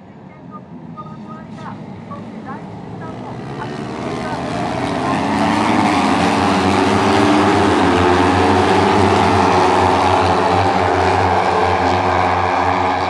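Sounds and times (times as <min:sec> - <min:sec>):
racing motorcycles whining past: 0:01.2 - 0:13.0.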